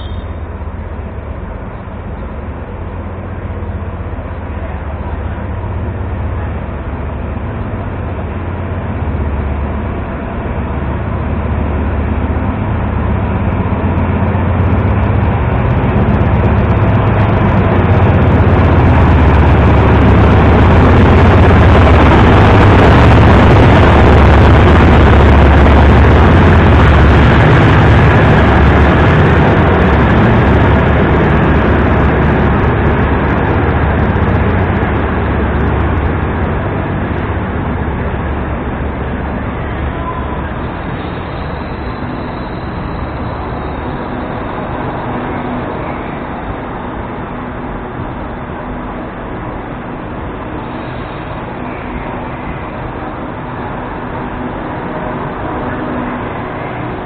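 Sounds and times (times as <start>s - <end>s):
diesel locomotive engine rumble: 0.0s - 57.0s
train carriages rolling on rails: 0.0s - 57.0s.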